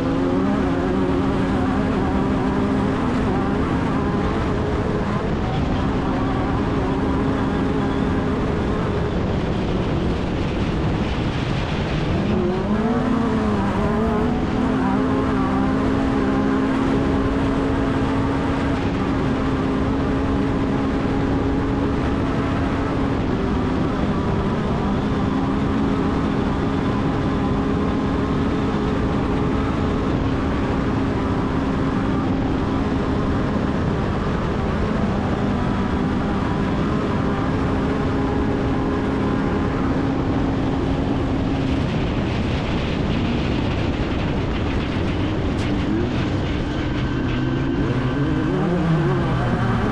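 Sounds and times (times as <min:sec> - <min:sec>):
constant rushing noise: 0:00.0 - 0:49.9
race vehicle engine running hard: 0:00.0 - 0:49.9.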